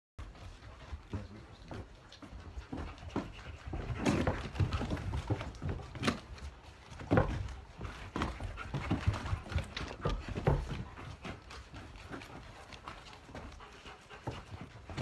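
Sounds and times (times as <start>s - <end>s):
shuffling footsteps on concrete: 0.2s - 15.0s.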